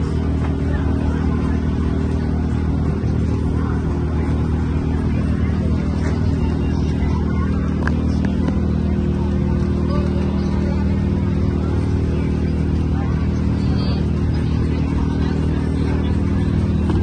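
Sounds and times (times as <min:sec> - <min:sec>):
engine humming steadily: 0:00.0 - 0:17.0
faint crowd chatter: 0:00.0 - 0:17.0.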